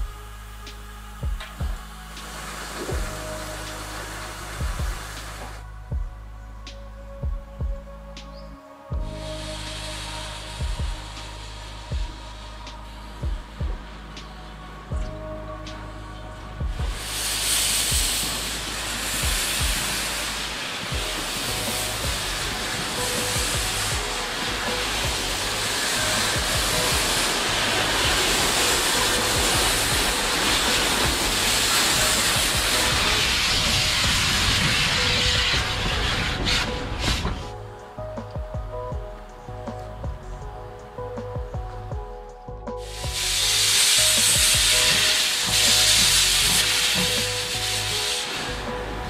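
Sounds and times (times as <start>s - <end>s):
steam locomotive moving slowly: 0.0s - 38.7s, 42.6s - 49.0s
background music: 0.0s - 49.0s
hiss of venting steam: 0.2s - 5.7s, 8.3s - 37.6s, 42.8s - 49.0s.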